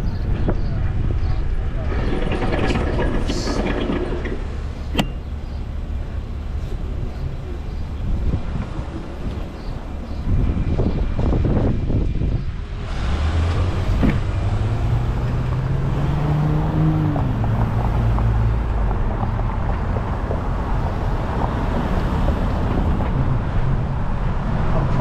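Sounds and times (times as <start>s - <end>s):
road traffic rumble: 0.0s - 25.0s
vehicle engine humming: 0.0s - 25.0s.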